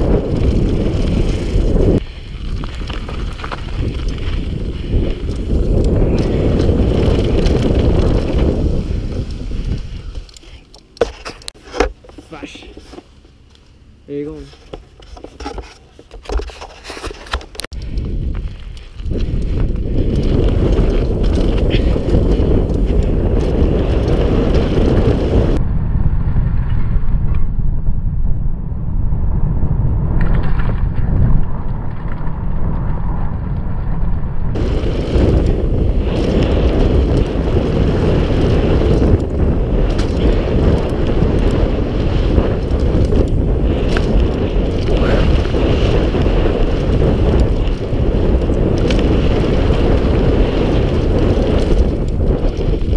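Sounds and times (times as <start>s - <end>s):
bike rattling over gravel: 0.0s - 13.5s, 14.1s - 25.6s, 30.2s - 52.9s
wind buffeting microphone: 0.0s - 52.9s.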